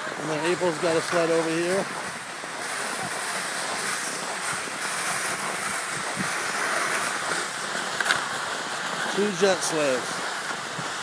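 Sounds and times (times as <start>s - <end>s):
plastic sleds scraping on snow: 0.0s - 11.0s.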